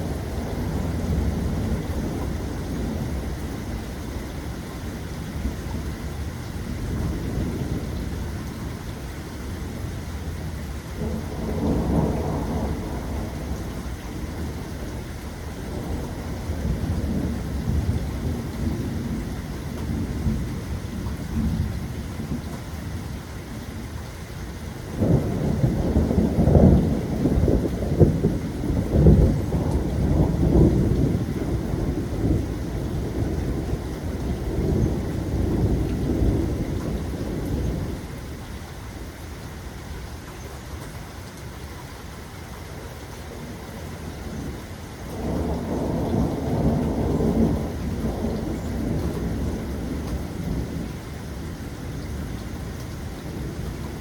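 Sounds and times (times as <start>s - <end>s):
rolling thunder: 0.0s - 9.0s, 11.0s - 23.0s, 24.8s - 38.4s, 43.3s - 54.0s
steady rain: 0.0s - 54.0s.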